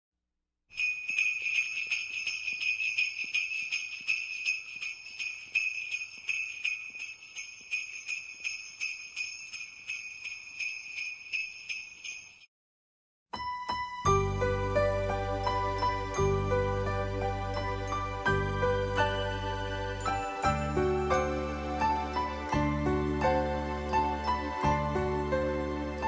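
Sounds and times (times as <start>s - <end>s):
sleigh bells jingling: 0.7s - 12.5s, 14.0s - 26.0s.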